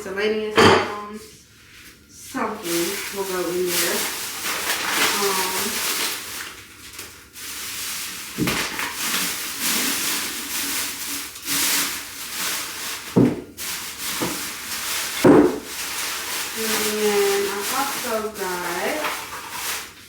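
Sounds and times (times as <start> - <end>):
packaging rustling: 2.6 - 20.0.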